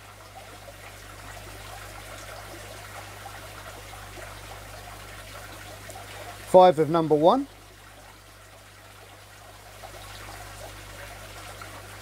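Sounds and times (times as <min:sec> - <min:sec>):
aquarium water trickling: 0:00.0 - 0:12.0
low electrical hum: 0:00.0 - 0:12.0.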